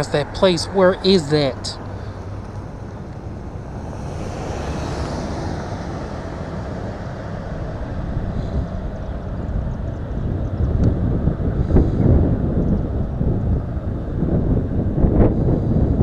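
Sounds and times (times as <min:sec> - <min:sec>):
road rumble: 0:00.0 - 0:16.0
wind rushing over microphone: 0:00.0 - 0:16.0.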